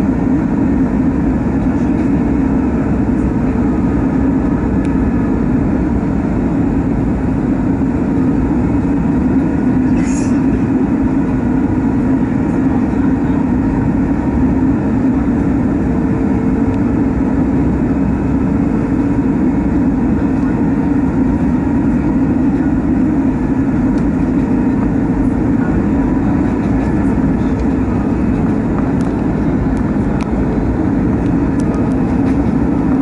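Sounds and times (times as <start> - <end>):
jet engine cabin noise: 0.0 - 33.0.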